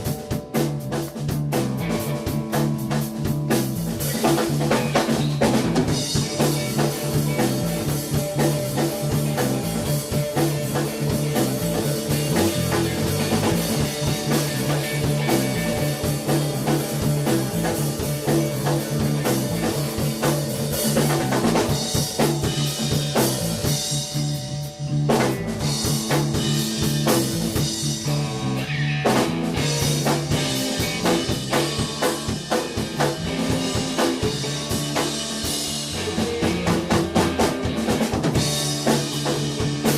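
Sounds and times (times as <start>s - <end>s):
drums with rimshots: 0.0s - 39.9s
rock band playing: 0.0s - 39.9s
stepping bass line: 0.0s - 39.9s.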